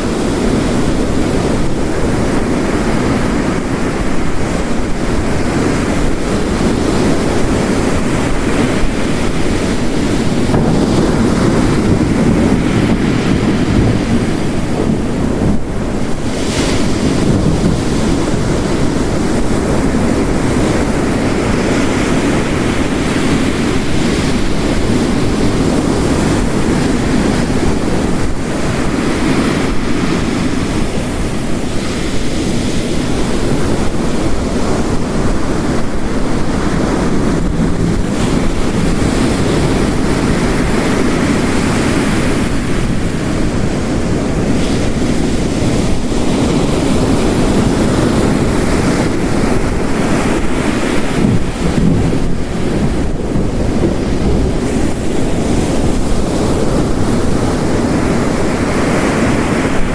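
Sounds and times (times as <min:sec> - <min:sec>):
heavy rain: 0:00.0 - 0:59.9
ocean waves crashing on rocks: 0:00.0 - 0:59.9.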